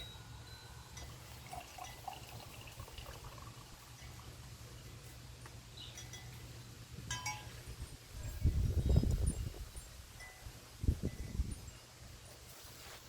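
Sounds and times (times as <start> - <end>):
wind chimes ringing: 0.0 - 4.4, 5.8 - 11.9.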